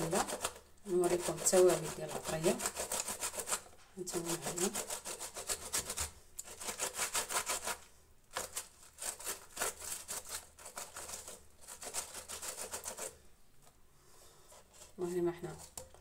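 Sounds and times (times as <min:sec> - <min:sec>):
tomato scraping on grater: 0:00.0 - 0:13.2.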